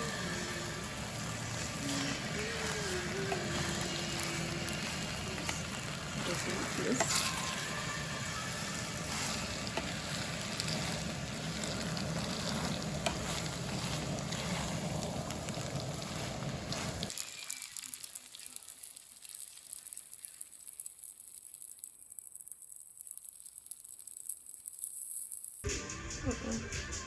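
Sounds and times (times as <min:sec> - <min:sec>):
food sizzling in a pan: 0:00.0 - 0:25.7.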